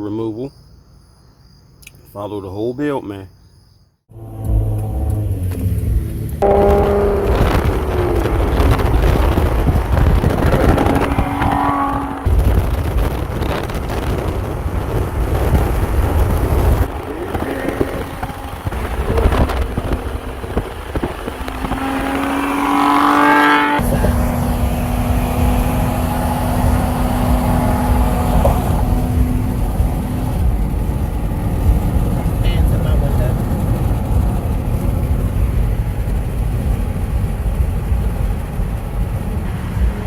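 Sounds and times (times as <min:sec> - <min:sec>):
car engine deep exhaust rumble: 0:04.1 - 0:40.0.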